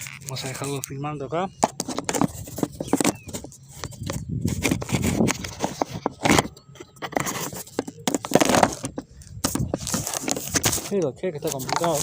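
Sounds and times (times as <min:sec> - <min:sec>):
camera handling noise: 0:01.6 - 0:12.0.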